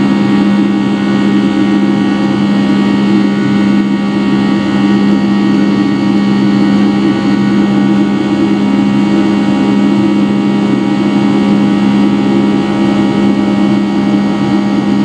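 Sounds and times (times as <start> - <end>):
jet engine drone from cabin: 0.0 - 15.0.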